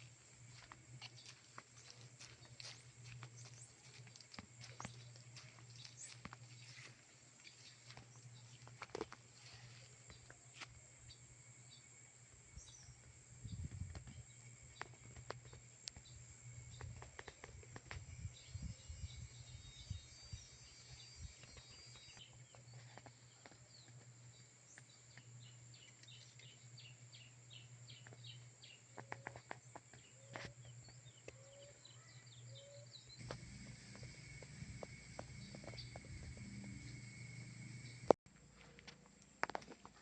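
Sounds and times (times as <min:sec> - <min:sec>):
faint birds chirping: 0:00.0 - 0:39.4
steady high-pitched hum: 0:00.0 - 0:39.6.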